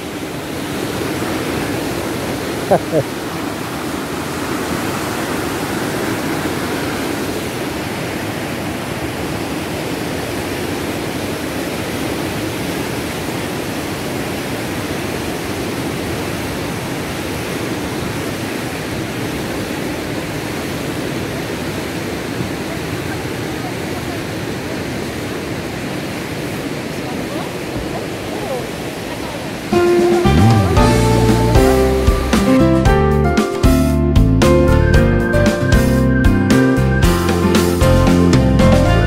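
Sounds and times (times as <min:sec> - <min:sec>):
whitewater rapids rushing: 0:00.0 - 0:32.9.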